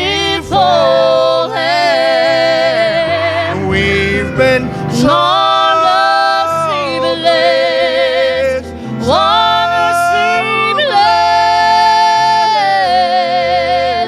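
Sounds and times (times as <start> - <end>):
instrumental accompaniment: 0.0 - 14.0
person singing gospel: 0.0 - 14.0.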